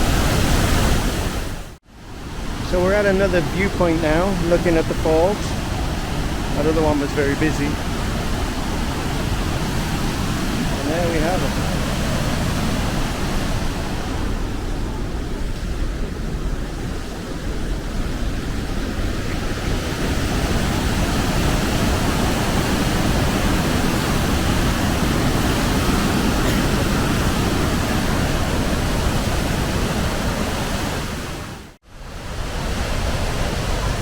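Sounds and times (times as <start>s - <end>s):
rush of falling water: 0.0s - 34.0s.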